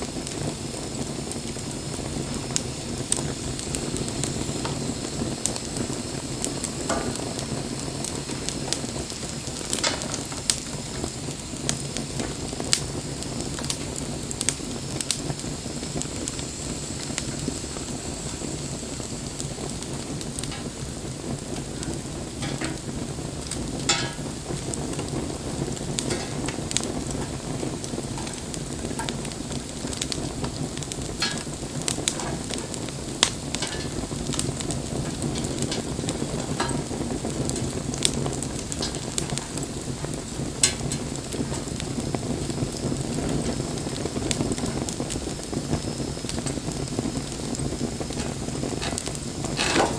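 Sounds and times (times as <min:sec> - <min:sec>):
burning wood crackling and popping: 0:00.0 - 0:49.9
hiss of flames: 0:00.0 - 0:49.9.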